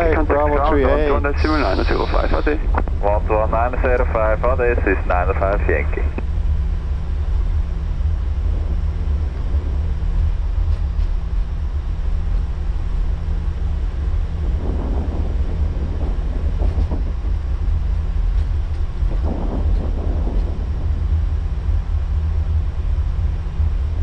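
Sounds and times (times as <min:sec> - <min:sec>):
jet engines idling low rumble: 0:00.0 - 0:24.0.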